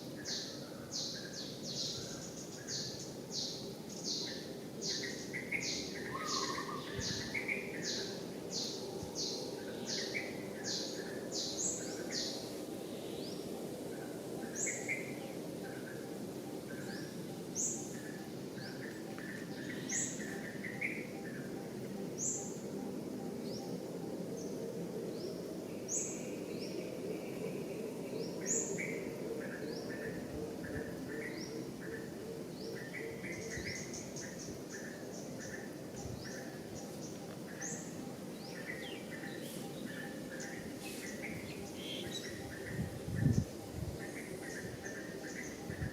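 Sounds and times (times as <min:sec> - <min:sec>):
outdoor background hum: 0:00.0 - 0:45.9.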